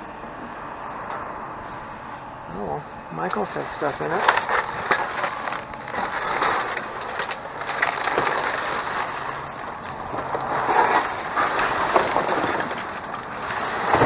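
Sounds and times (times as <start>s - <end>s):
trash rustling and crunching: 2.0s - 14.0s.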